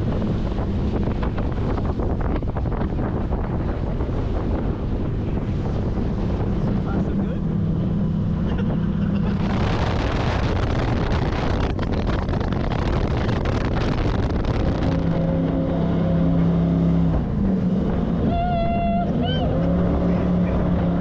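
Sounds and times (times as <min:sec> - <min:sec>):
boat engines running: 0:00.0 - 0:21.0
wind rushing on microphone: 0:00.0 - 0:21.0.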